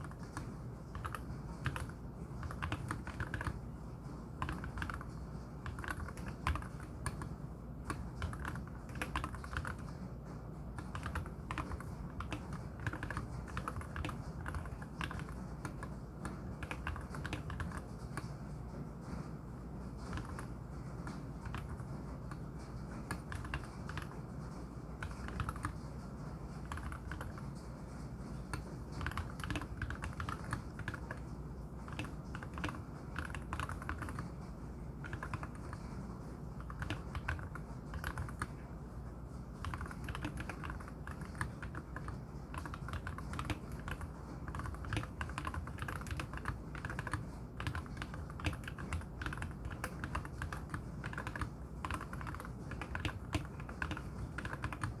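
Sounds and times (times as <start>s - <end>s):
mechanical keyboard typing: 0.0s - 3.7s, 4.3s - 10.0s, 10.7s - 18.4s, 20.0s - 55.0s.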